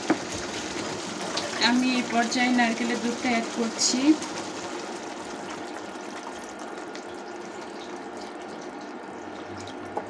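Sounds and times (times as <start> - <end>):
liquid pouring into a pan: 0.0 - 10.0.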